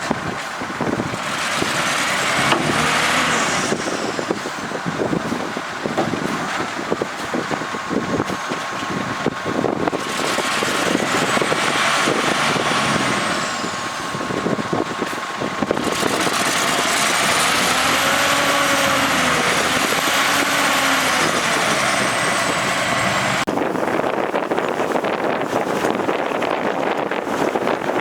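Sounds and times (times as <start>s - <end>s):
heavy diesel engines working: 0.0s - 28.0s.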